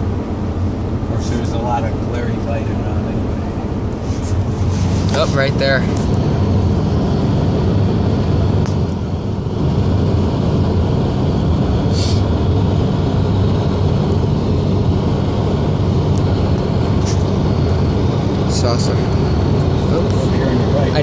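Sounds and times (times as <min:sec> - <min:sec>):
road and engine noise inside car: 0:00.0 - 0:21.0.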